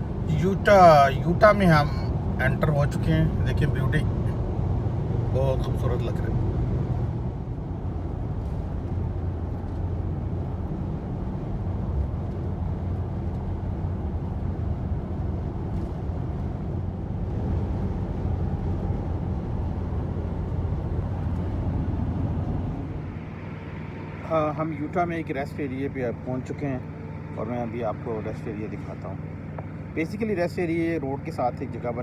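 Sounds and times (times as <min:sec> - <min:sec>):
car driving on highway: 0:00.0 - 0:32.0.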